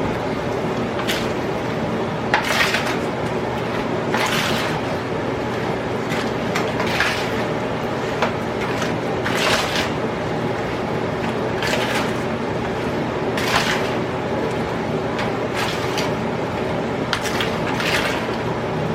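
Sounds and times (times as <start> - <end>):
steady hum: 0.0 - 18.9.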